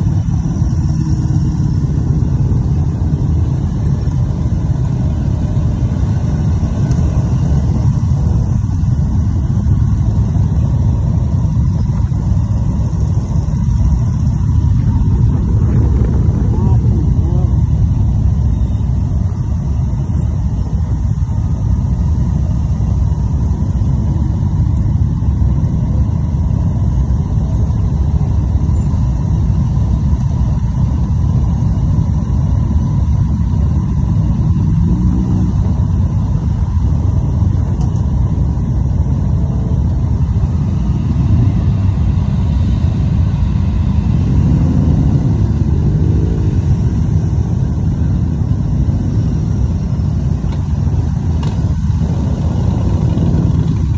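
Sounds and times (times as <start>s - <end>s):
motorcycle engines rumbling: 0.0s - 53.9s
motorcycle revving: 0.0s - 53.9s.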